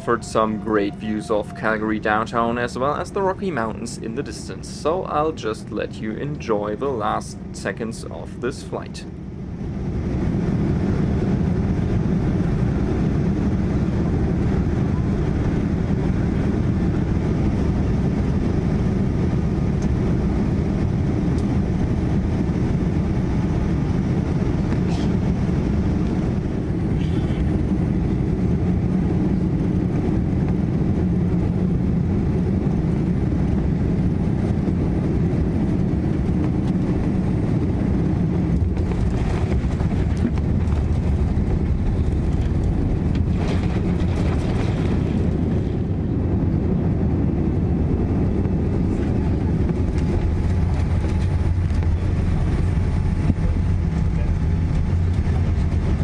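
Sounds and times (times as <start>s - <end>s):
airliner cabin airflow and engine rumble: 0.0s - 56.0s.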